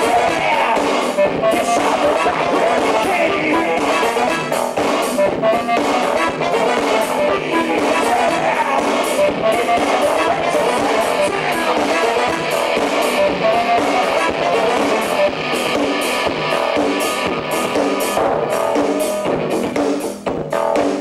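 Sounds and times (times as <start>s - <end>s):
live industrial rock band: 0.0s - 21.0s.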